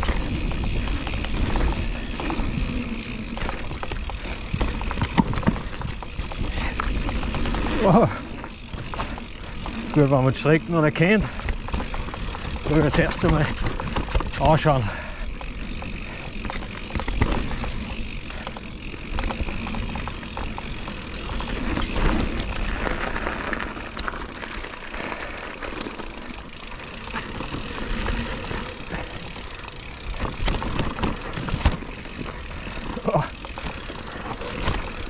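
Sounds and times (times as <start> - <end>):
bike clicks and rattles: 0.0 - 35.0
bike tyres rolling on dirt: 0.0 - 35.0.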